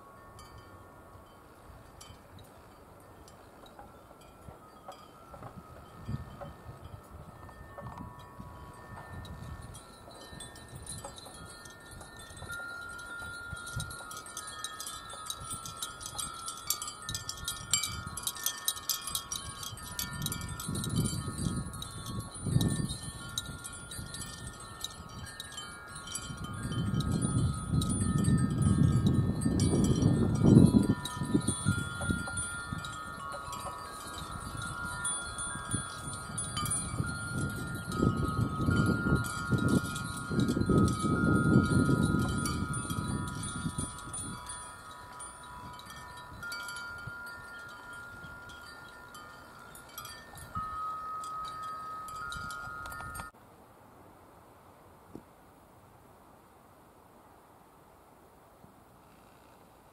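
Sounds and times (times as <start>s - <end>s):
wind chimes ringing: 0.0s - 53.4s.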